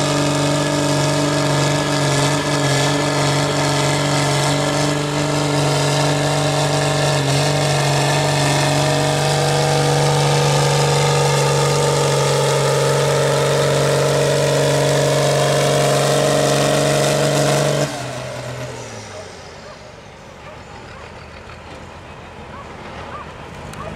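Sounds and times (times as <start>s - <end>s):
tractor diesel engine at full throttle: 0.0s - 21.8s.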